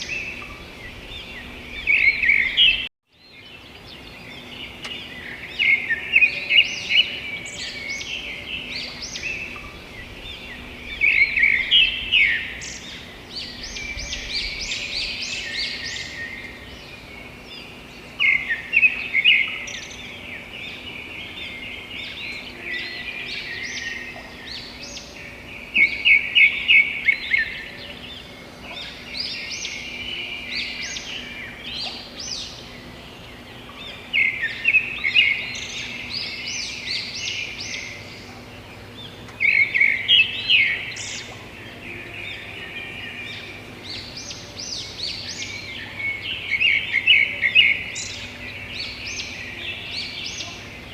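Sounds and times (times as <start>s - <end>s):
birds singing and chirping: 0.0s - 50.9s.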